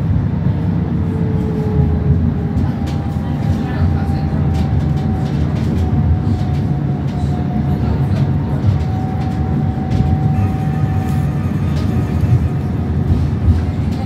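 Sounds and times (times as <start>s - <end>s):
tram cabin rumble: 0.0s - 14.0s.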